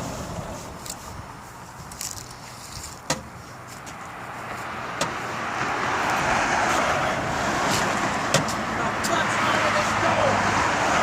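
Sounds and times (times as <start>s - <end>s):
vehicle running: 0.0s - 11.0s.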